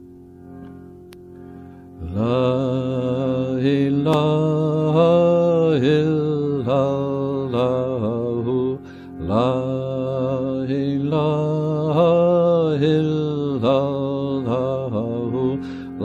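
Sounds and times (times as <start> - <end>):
soft steady drone: 0.0 - 16.0
man chanting long notes: 2.0 - 16.0.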